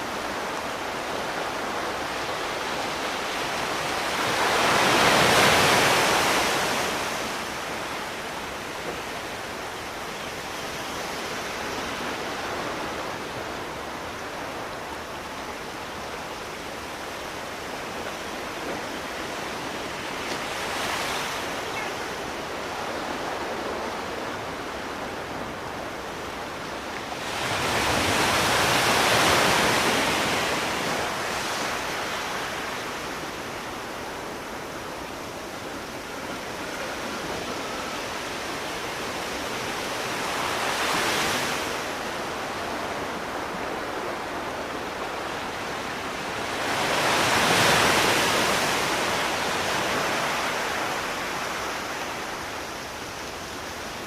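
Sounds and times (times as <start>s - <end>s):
sea waves breaking: 10.4s - 54.0s.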